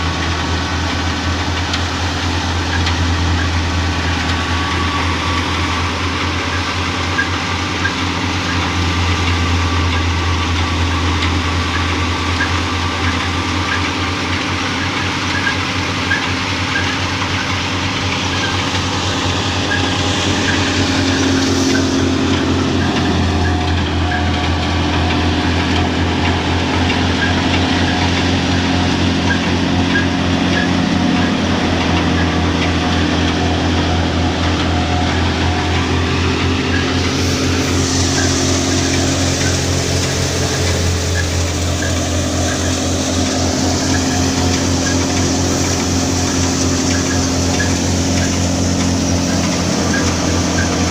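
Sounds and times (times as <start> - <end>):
threshing machine running: 0.0 - 50.9.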